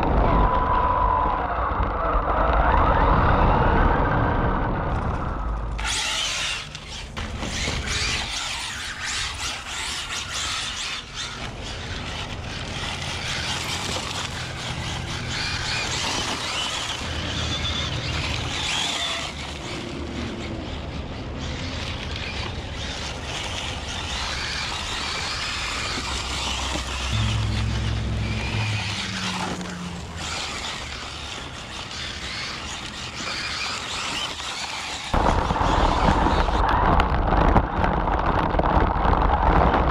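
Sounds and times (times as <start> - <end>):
rc car motor whining: 0.2 - 36.6
tyres scrabbling on gravel: 4.9 - 39.9.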